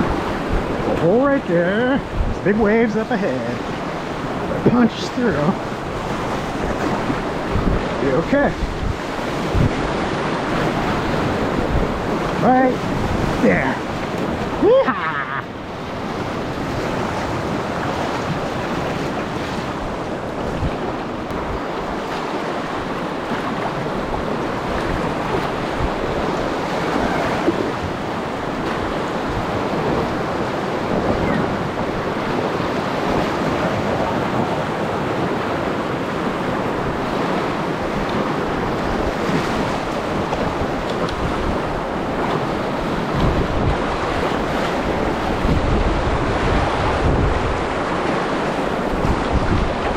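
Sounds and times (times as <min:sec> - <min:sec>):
river rapids rushing: 0:00.0 - 0:49.9.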